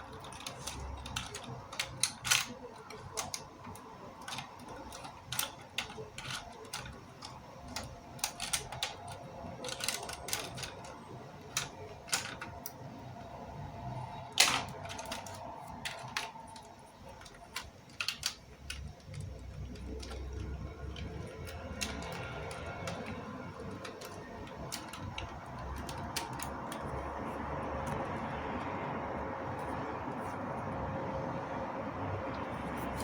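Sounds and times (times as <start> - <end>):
plastic parts clicking: 0.0 - 28.8.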